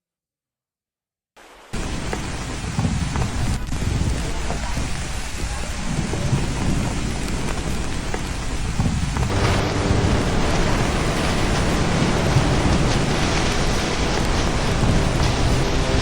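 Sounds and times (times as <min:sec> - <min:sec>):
water rushing with low rumble: 0:01.6 - 0:16.0.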